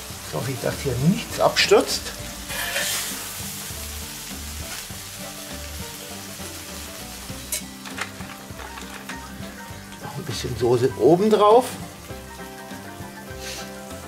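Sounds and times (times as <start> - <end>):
food sizzling on grill: 0.0 - 14.0.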